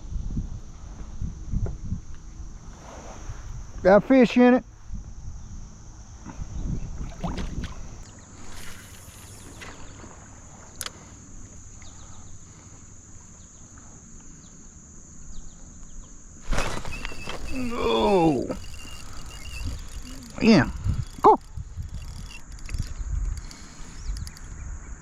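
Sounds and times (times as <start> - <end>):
water around a kayak: 0.0 - 25.0.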